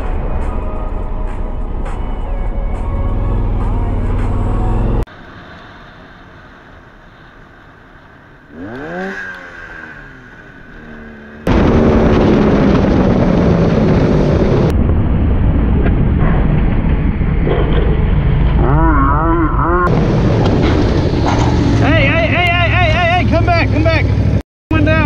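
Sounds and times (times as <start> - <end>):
engine note rising and falling: 0.0 - 5.1, 8.4 - 25.0
motorcycle engine rumble: 0.0 - 25.0.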